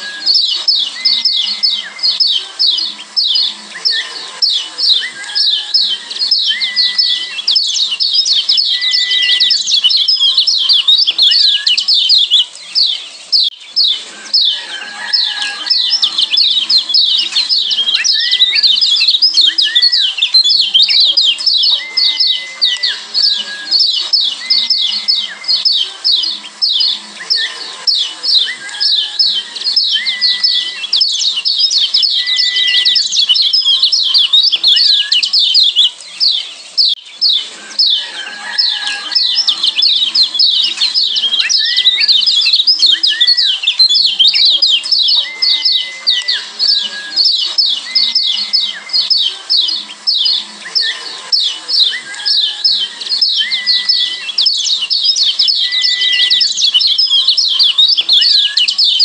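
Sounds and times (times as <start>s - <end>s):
birds chirping rapidly: 0.0s - 59.0s.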